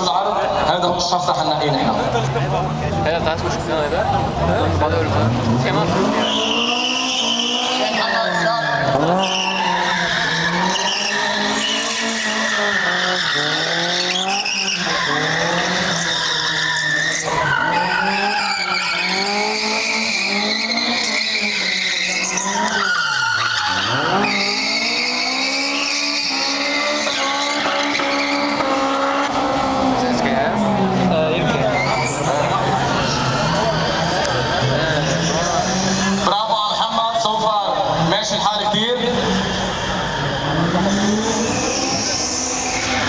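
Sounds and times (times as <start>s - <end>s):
car engine revving: 0.0s - 43.0s
tyres skidding and squealing: 0.0s - 43.0s.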